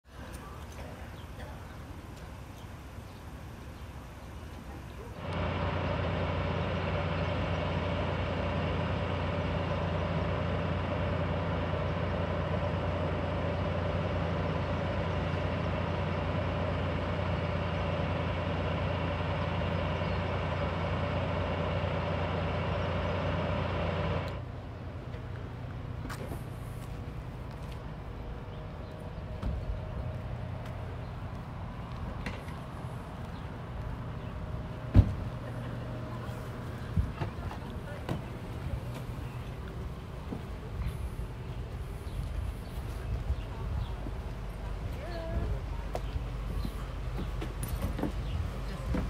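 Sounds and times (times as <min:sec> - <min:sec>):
quiet outdoor ambience: 0:00.0 - 0:49.0
machinery hum with low drone: 0:00.1 - 0:49.0.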